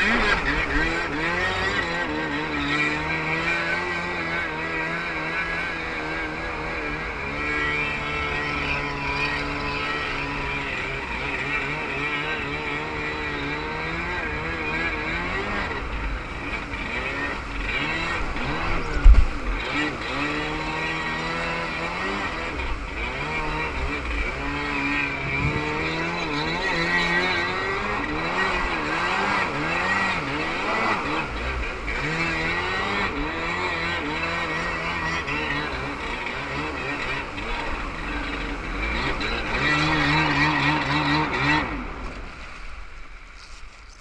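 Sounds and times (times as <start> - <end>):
jet ski engine revving: 0.0 - 43.6.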